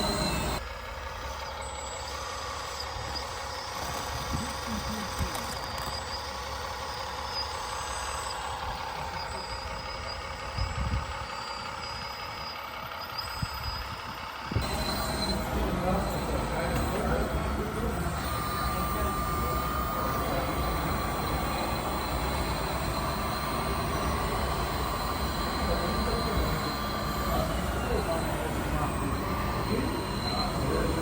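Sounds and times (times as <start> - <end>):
model truck running: 0.0 - 31.0
reversing beeper beeps: 0.0 - 31.0.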